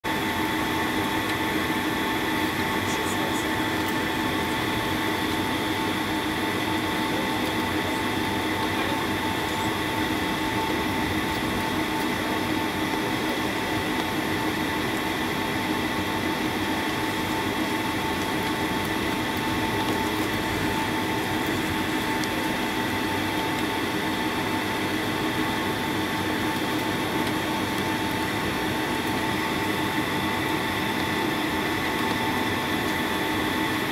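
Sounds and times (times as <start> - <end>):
jet engines whining in cabin: 0.0 - 33.9.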